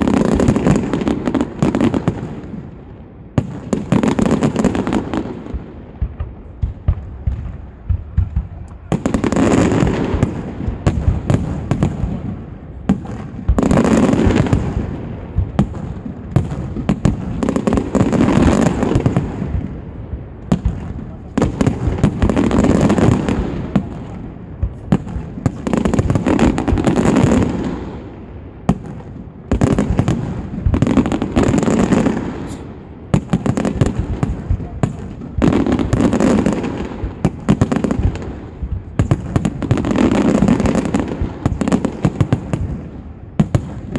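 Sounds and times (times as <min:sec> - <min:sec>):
fireworks bursting with bangs and crackles: 0:00.0 - 0:43.9.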